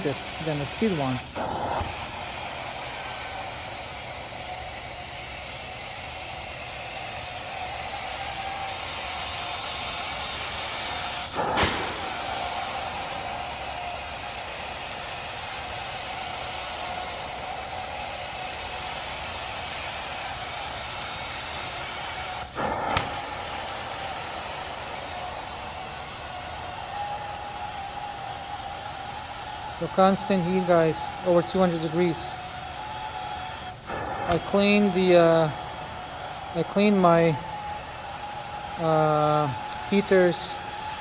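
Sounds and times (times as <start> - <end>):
carpet cleaning wand hissing rush: 0.0 - 41.0.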